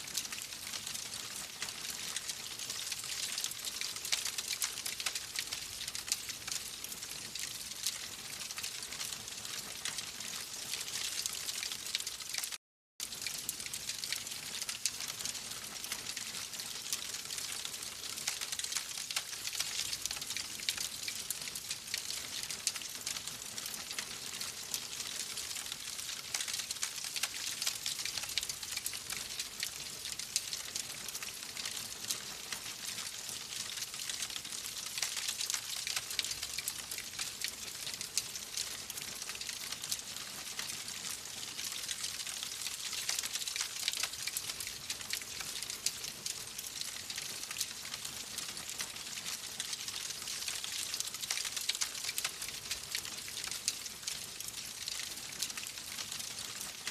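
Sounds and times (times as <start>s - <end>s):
wood fire crackling: 0.1s - 56.9s.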